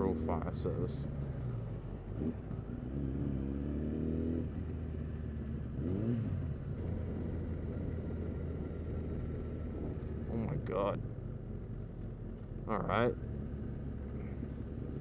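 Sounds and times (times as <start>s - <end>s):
motorcycle engine running: 1.0s - 15.0s.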